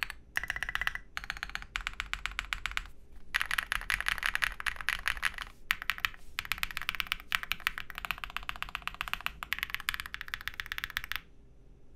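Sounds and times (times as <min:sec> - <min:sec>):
fast typing on mechanical keyboard: 0:00.0 - 0:11.2.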